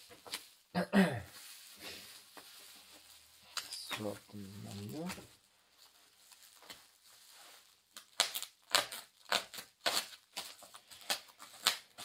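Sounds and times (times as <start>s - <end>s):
plastic wrap crinkling and tearing: 0.0s - 0.7s, 1.3s - 12.0s.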